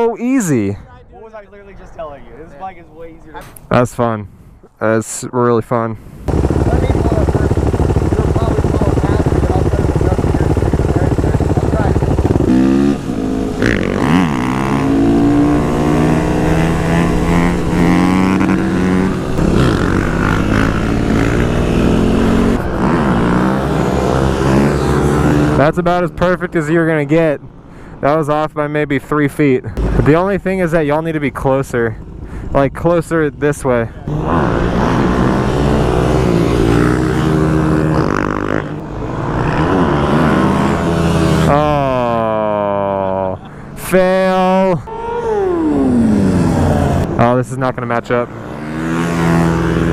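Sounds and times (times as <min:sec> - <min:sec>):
motorcycle engines revving: 0:06.2 - 0:49.9.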